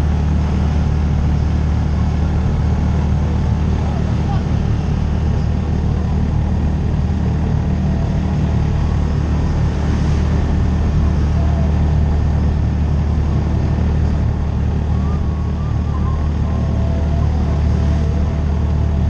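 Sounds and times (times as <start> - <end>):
utility vehicle engine droning: 0.0 - 19.0.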